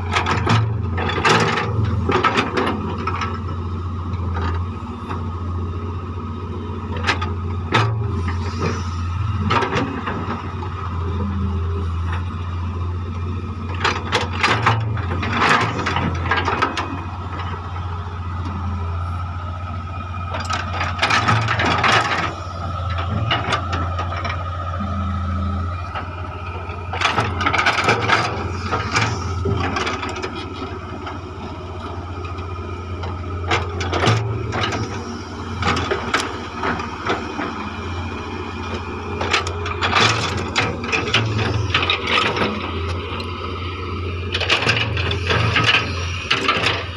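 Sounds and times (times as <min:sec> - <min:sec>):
excavator engine hum: 0:00.0 - 0:46.9.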